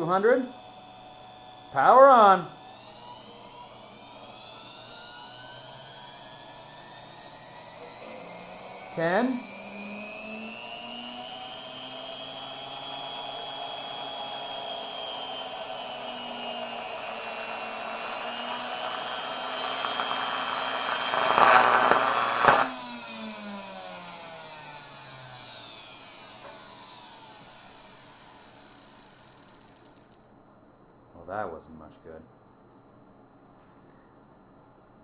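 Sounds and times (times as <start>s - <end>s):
vacuum cleaner motor whining: 0.0s - 30.1s
motor crackling burst: 0.0s - 30.2s.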